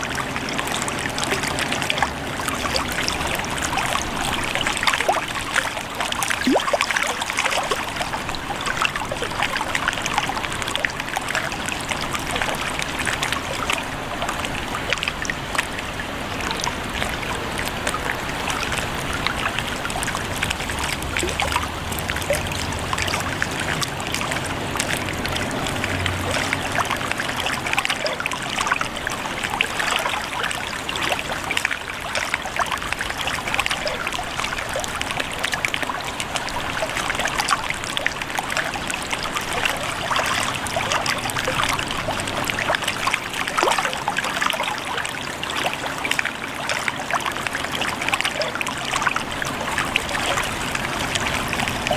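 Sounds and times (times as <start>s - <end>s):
small water splashes: 0.0s - 51.9s
water trickling and lapping: 0.0s - 51.9s.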